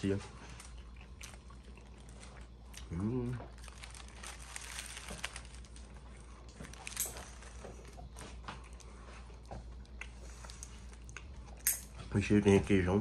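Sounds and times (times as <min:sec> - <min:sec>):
person chewing crispy food: 0:00.3 - 0:11.8.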